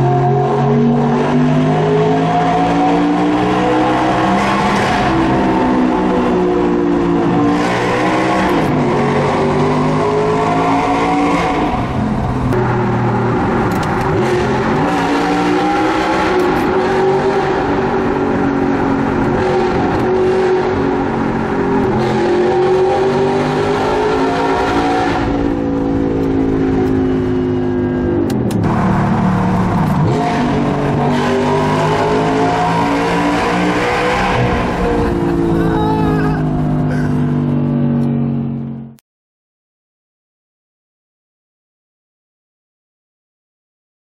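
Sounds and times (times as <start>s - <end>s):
car engine accelerating hard: 0.0s - 39.0s.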